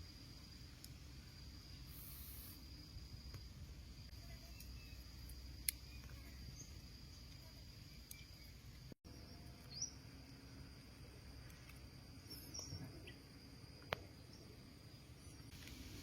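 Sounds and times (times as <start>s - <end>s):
insect trill: 0.0s - 16.0s.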